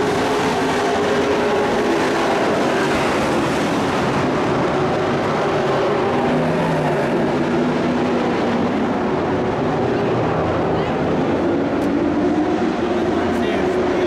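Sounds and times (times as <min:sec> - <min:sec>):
race truck engines droning: 0:00.0 - 0:14.0.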